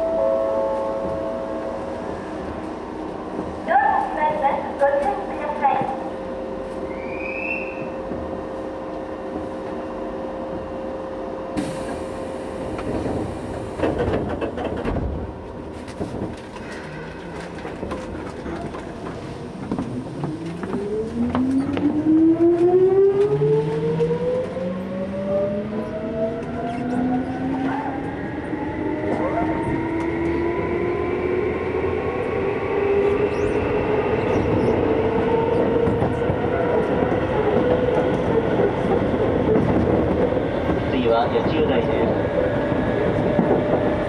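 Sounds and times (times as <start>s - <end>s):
train equipment hum: 0.0s - 44.0s.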